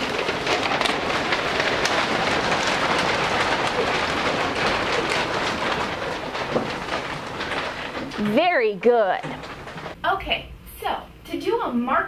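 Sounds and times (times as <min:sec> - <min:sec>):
paper bags rustling and crinkling: 0:00.0 - 0:10.0.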